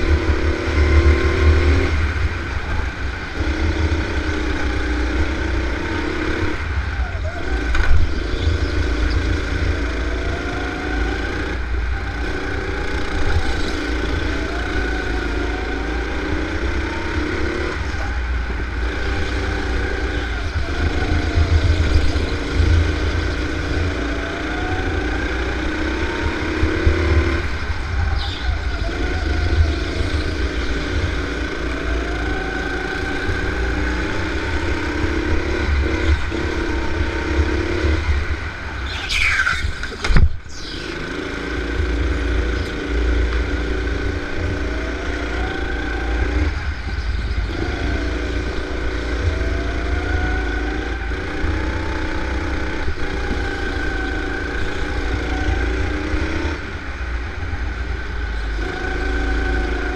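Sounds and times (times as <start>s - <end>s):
go-kart engine accelerating: 0.0s - 59.9s.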